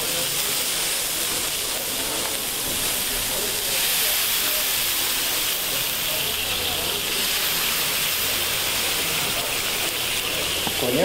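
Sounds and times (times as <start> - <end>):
juice sizzling in hot pan: 0.0 - 11.0.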